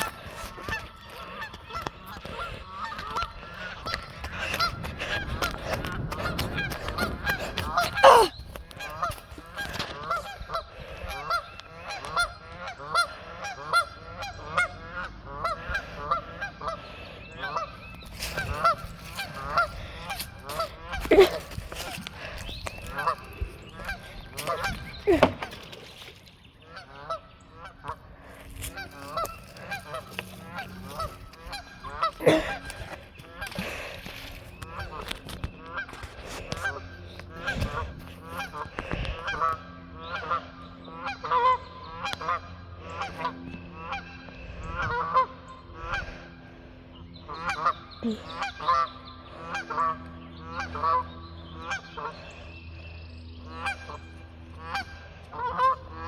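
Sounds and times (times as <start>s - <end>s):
geese honking: 0.0s - 56.0s.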